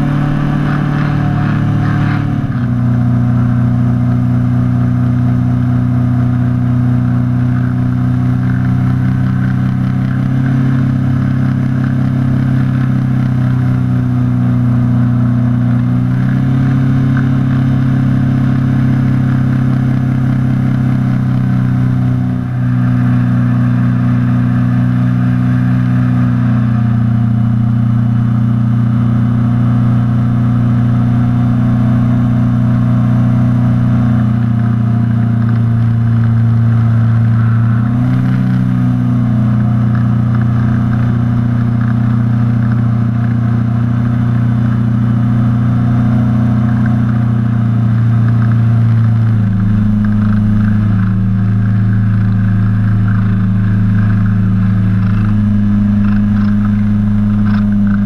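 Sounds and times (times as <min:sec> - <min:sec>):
paramotor engine and propeller drone: 0:00.0 - 0:58.0.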